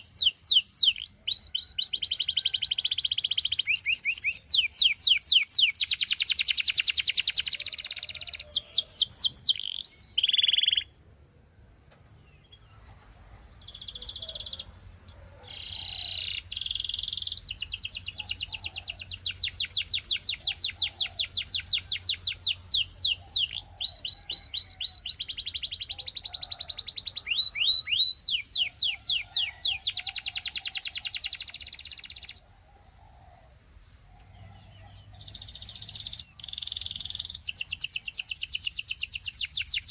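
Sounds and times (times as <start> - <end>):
canary singing trills: 0.0 - 11.0, 12.2 - 32.5, 34.0 - 39.9.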